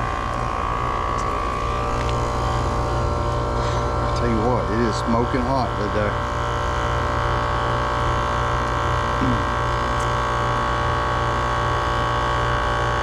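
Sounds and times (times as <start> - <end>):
air conditioner compressor humming: 0.0 - 13.0.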